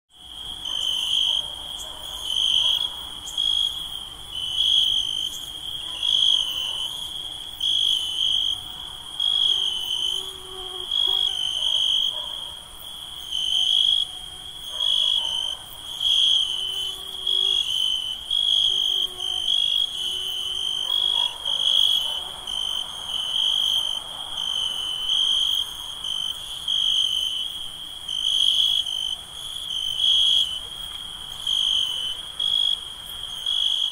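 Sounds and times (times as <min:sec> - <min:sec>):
crickets and insects trilling: 0:00.2 - 0:33.9.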